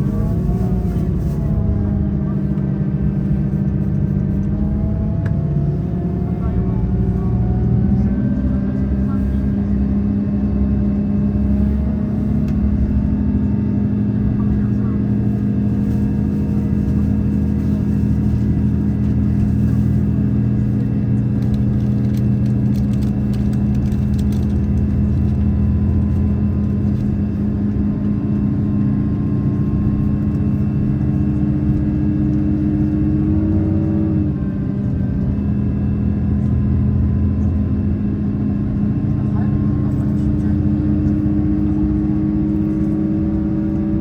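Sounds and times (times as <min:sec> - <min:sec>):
diesel engine drone: 0:00.0 - 0:44.0
train running noise: 0:00.0 - 0:44.0.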